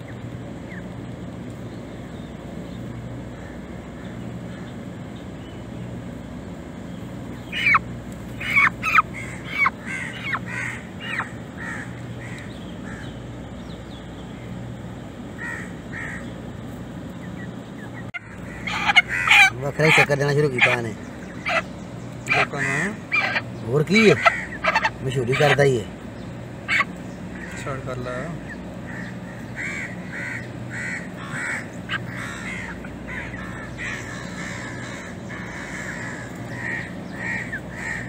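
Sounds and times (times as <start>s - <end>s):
harsh downward bird calls: 0.0s - 38.0s
steady low hum: 0.0s - 38.0s.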